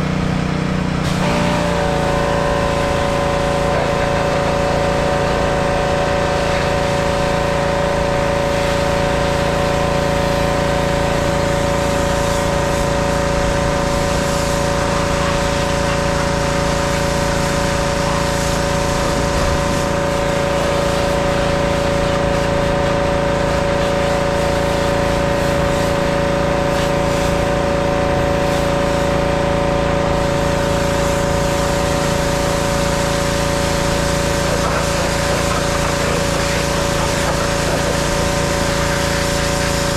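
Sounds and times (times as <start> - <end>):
pressure washer motor running: 0.0 - 39.9
water spray hissing: 1.0 - 39.9.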